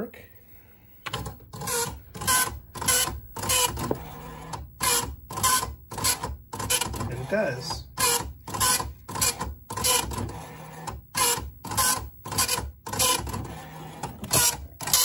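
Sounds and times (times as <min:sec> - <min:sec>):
dot-matrix printer rattling: 0:01.1 - 0:15.0.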